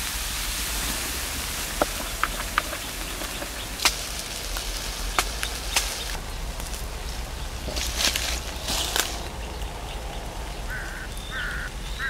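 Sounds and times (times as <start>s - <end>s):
fire crackles and pops: 0.0s - 12.0s.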